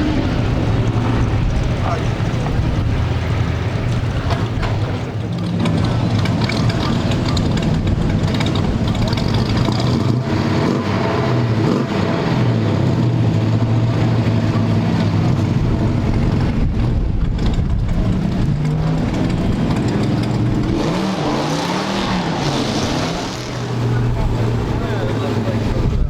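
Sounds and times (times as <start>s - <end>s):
engine revving: 0.0s - 26.0s
muscle car engine running: 0.0s - 26.0s.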